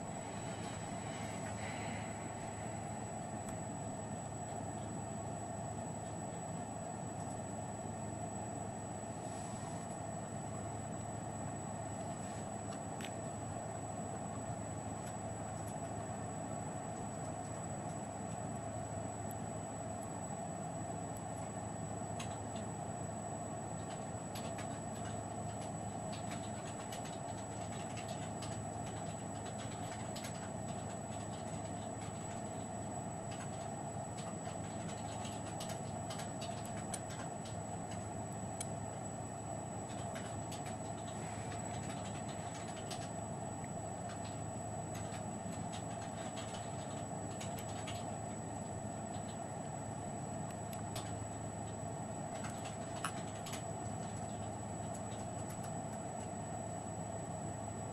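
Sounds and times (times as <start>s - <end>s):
low hum and hiss: 0.0s - 57.9s.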